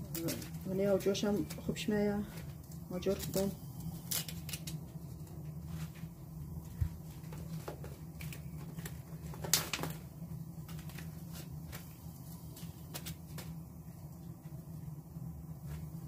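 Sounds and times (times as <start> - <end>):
corn husks rustling and snapping: 0.0 - 6.1, 6.8 - 13.6
steady low hum: 0.0 - 16.0.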